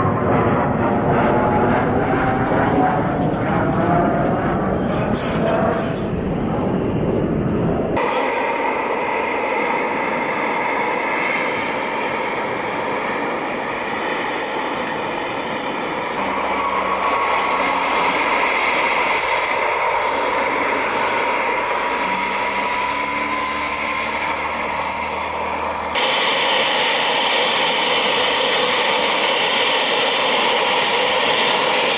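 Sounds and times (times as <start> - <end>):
high engine whine: 0.0 - 31.9
jet engines running: 0.0 - 31.9.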